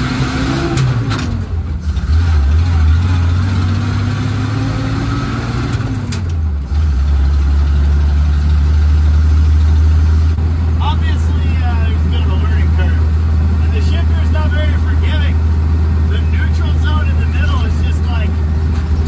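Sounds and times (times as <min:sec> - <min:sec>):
truck engine while driving: 0:00.0 - 0:19.0.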